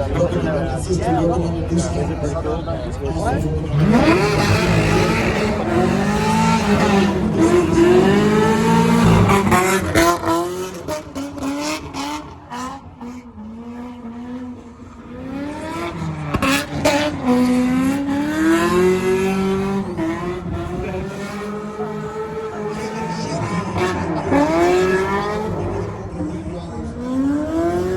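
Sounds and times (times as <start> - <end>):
car engine revving: 0.0 - 27.9
tires squealing: 3.4 - 27.9.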